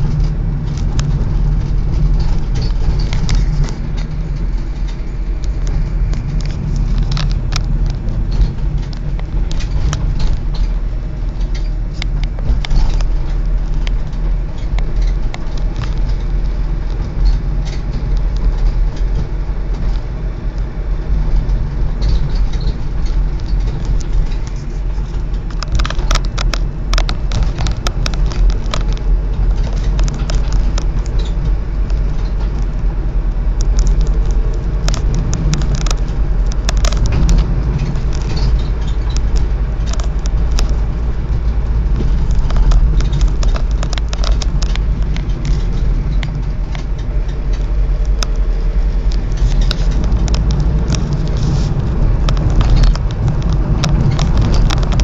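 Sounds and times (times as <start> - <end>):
engine and road noise rumble: 0.0 - 55.0
small clicks and rattles: 0.0 - 55.0.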